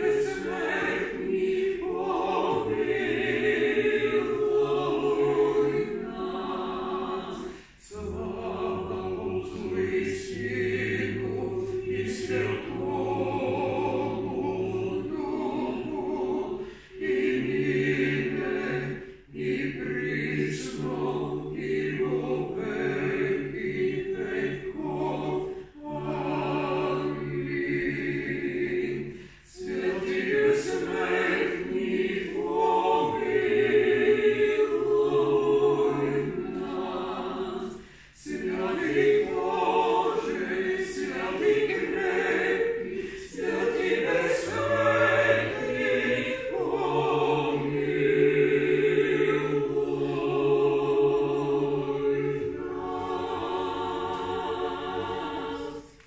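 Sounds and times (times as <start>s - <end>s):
a cappella ensemble singing: 0.0s - 56.0s.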